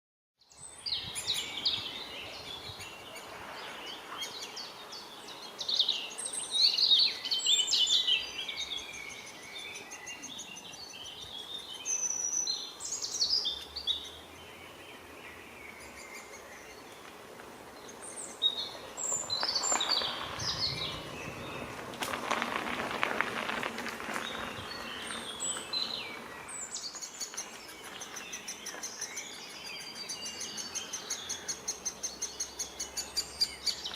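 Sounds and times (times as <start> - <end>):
wild birds calling and singing: 0.4 - 33.9
background hiss: 0.5 - 33.9.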